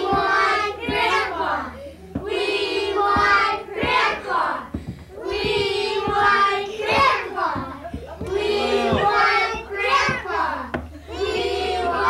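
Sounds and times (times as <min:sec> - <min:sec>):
child singing: 0:00.0 - 0:12.0.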